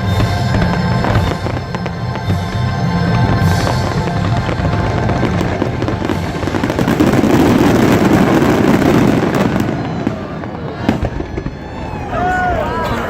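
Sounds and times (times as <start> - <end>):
loud show music: 0.0 - 11.3
fireworks crackling bursts: 0.0 - 13.0.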